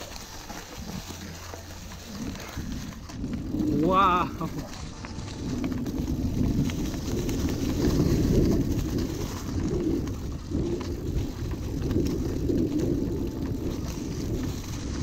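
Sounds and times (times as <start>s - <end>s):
bike clicks and rattles: 0.0s - 15.0s
bike tyres rumbling on dirt trail: 0.0s - 15.0s
wind buffeting microphone: 0.0s - 15.0s.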